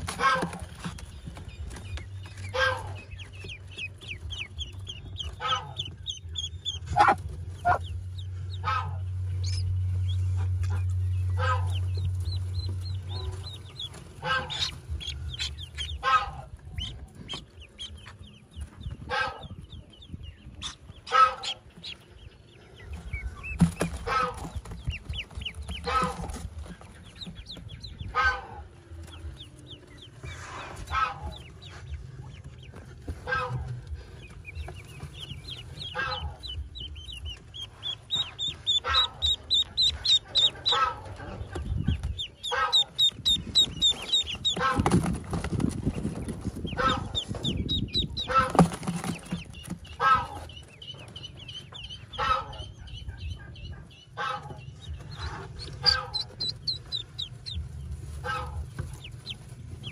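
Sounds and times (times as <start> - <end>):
low hum: 0.0 - 48.5
ducklings peeping: 0.0 - 59.9.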